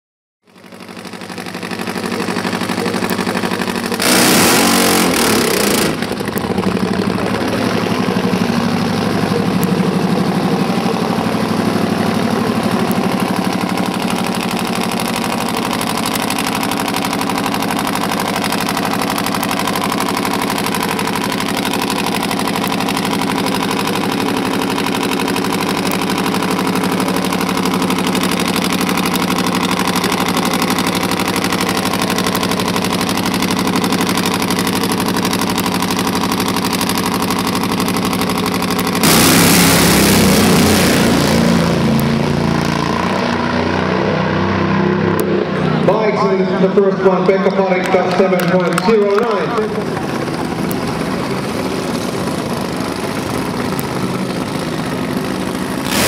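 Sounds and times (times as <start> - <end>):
motorcycle engine idling: 0.4 - 43.7, 45.2 - 56.0
loud engine blast: 0.5 - 56.0.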